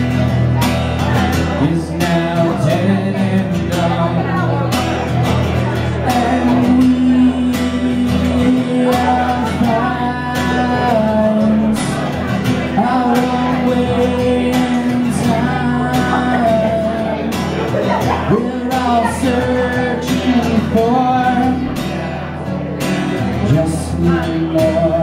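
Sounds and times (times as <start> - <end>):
acoustic guitar strumming: 0.0 - 25.0
man singing: 1.0 - 25.0.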